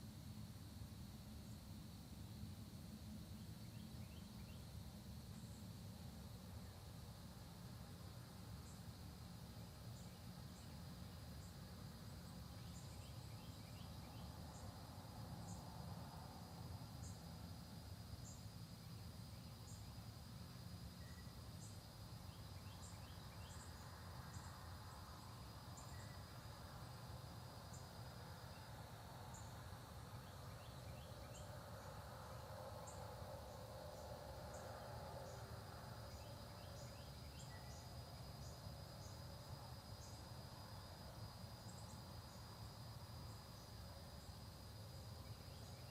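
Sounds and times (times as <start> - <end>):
high insect drone: 0.0 - 45.9.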